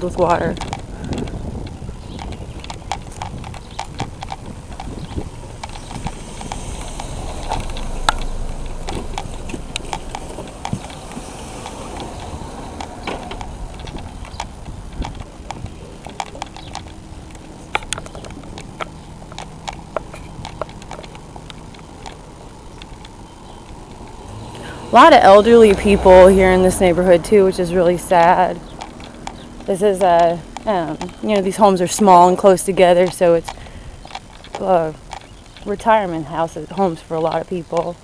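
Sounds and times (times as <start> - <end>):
low steady rumble: 0.0 - 38.0
shoes clicking on hard ground: 0.0 - 38.0.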